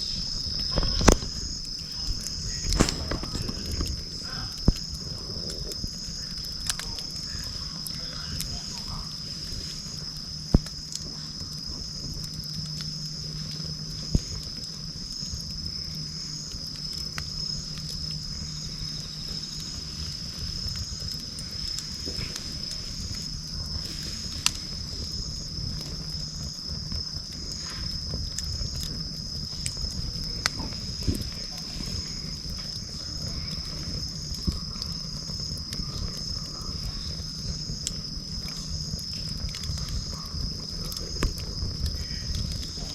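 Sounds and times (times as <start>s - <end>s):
campfire crackling: 0.0s - 42.9s
insects chirring: 0.0s - 42.9s.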